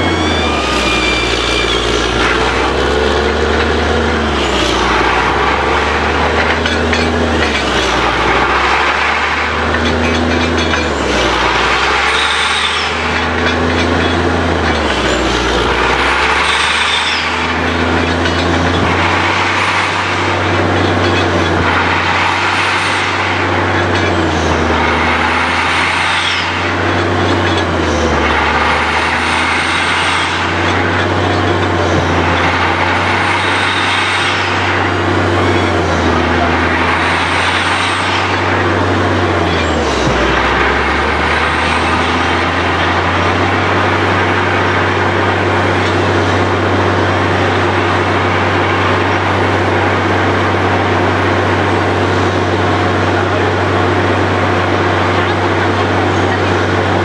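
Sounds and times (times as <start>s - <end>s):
drilling rig engine: 0.0s - 57.0s.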